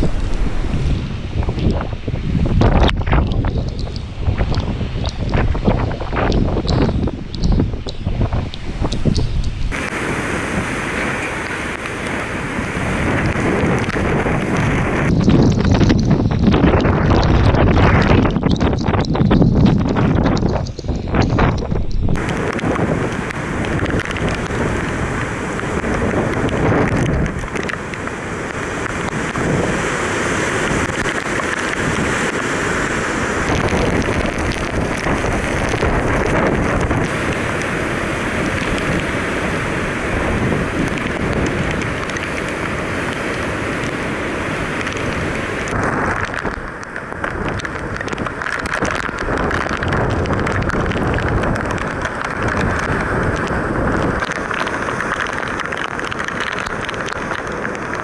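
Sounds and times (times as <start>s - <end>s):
strong wind buffeting microphone: 0.0s - 58.0s.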